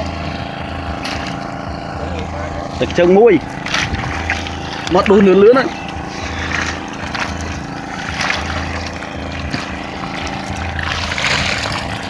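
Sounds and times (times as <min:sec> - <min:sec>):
boat engine humming: 0:00.0 - 0:12.0
fish splashing and flapping: 0:00.0 - 0:12.0.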